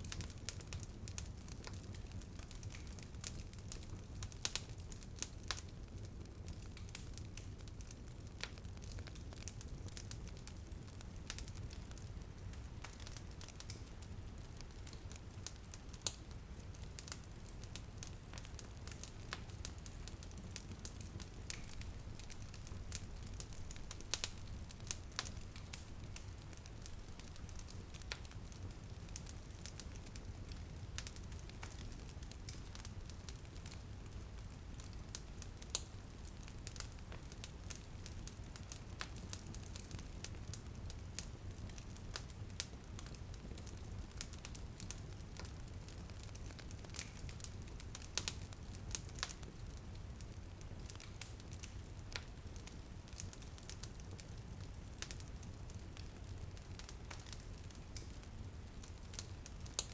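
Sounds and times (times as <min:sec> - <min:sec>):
light rain on a window: 0:00.0 - 0:59.9
wood fire crackling: 0:00.0 - 0:59.9.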